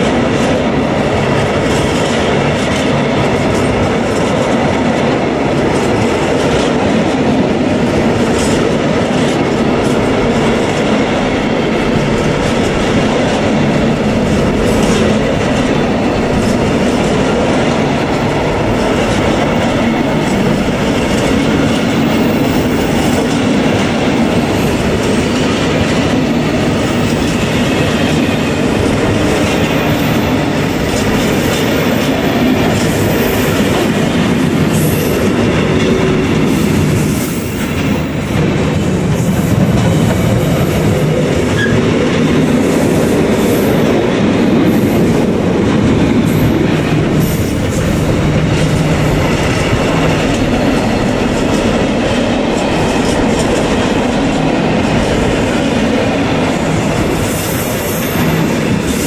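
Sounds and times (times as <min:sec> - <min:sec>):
freight train rolling past: 0:00.0 - 0:59.0
steel wheels on rails: 0:00.0 - 0:59.0.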